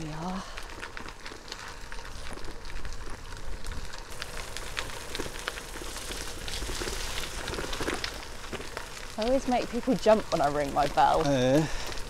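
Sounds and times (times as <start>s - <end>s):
bike tyres crackling on gravel: 0.0s - 12.0s.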